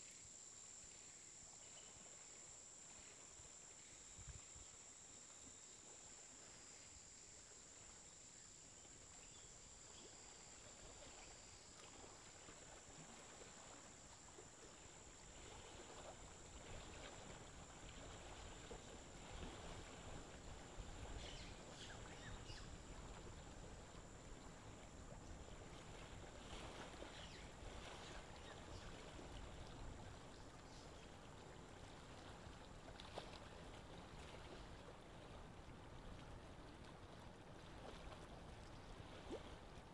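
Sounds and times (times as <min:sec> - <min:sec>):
thin steady high whine: 0:00.0 - 0:32.9.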